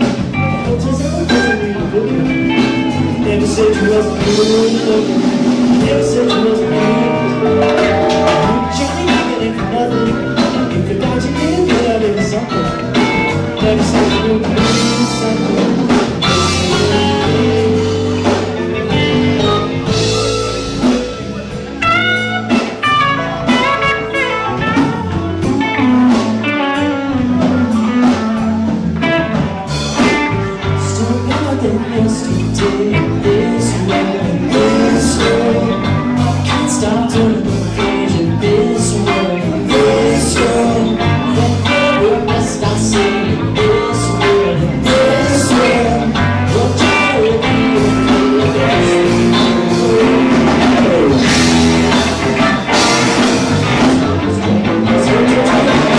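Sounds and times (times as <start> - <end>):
drum kit: 0.0 - 55.9
electric bass: 0.0 - 55.9
electric guitars: 0.0 - 55.9.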